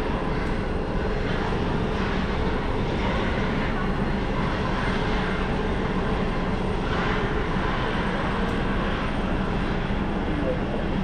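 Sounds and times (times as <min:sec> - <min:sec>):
airliner engines running: 0:00.0 - 0:11.0.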